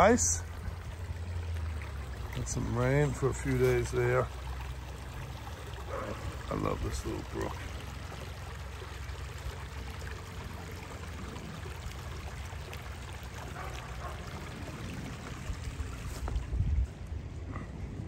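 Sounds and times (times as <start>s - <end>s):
brook trickling over stones: 0.0s - 17.3s.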